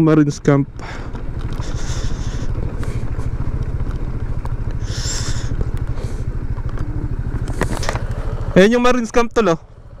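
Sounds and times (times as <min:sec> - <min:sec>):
motorcycle engine cruising: 0:00.0 - 0:10.0
wind and road noise: 0:00.0 - 0:10.0.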